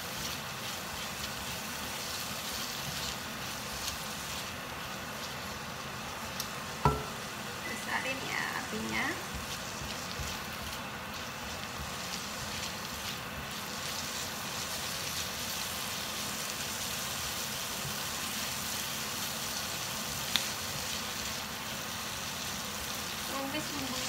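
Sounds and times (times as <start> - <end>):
spice paste sizzling in a wok: 0.0 - 24.0.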